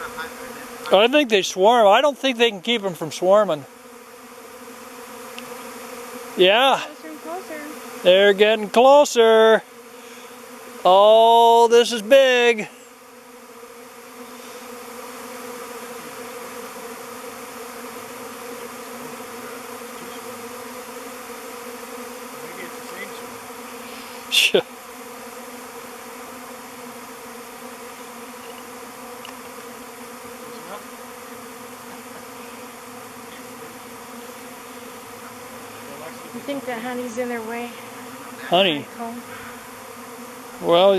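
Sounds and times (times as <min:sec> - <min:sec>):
bee swarm buzzing: 0:00.0 - 0:40.9.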